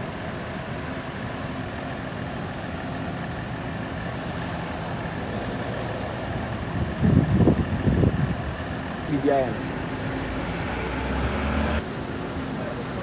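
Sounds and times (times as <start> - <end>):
engine idling with whine: 0.0 - 13.0.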